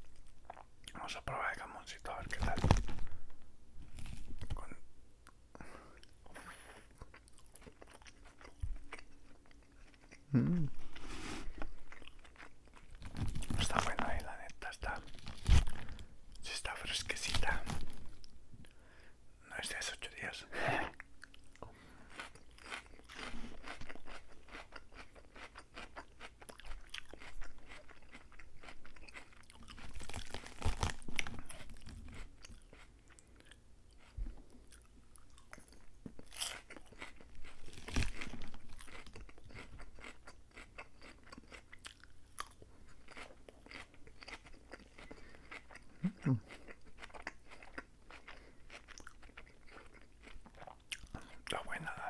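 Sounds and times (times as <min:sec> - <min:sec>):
crunchy lettuce chewing: 0:03.8 - 0:04.8, 0:06.0 - 0:16.4, 0:21.2 - 0:51.9.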